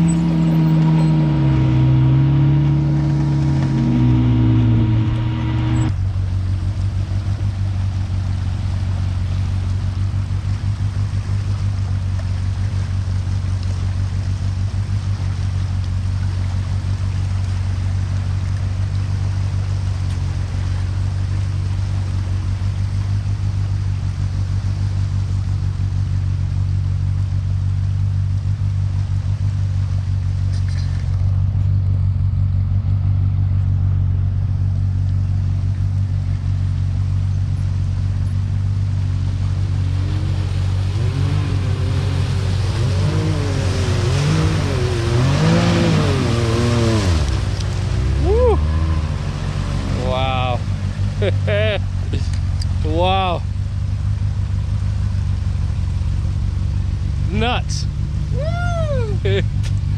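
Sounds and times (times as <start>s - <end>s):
rushing floodwater: 0.0s - 31.6s, 33.9s - 59.9s
engine idling: 0.0s - 59.9s.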